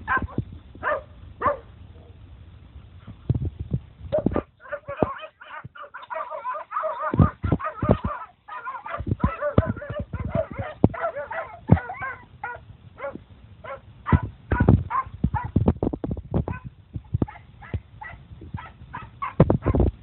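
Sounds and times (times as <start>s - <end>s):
hounds yelping and barking: 0.0s - 2.2s, 4.2s - 15.6s, 16.5s - 19.9s.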